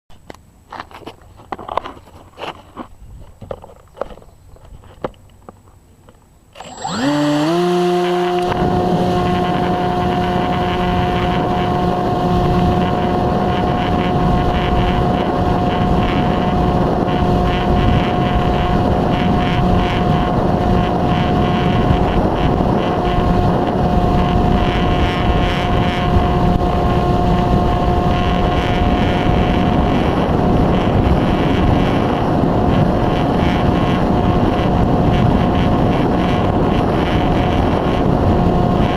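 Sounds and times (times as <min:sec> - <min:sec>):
wind noise on microphone: 0:01.0 - 0:05.6, 0:06.6 - 0:38.9
electric motor and propeller spinning: 0:06.5 - 0:38.9.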